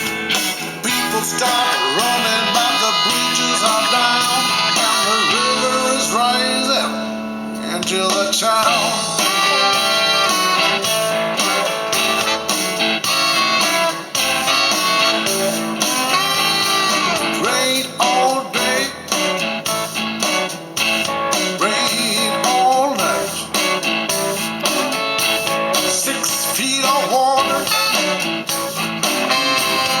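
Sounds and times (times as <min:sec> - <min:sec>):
blues guitar song on car stereo: 0:00.0 - 0:30.0.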